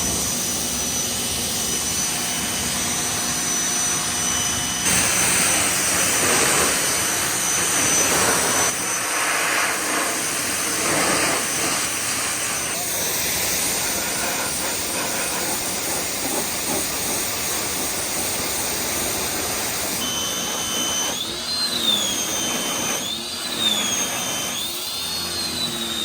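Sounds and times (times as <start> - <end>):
high whine: 0.0 - 26.0
water spraying hard: 4.8 - 25.9.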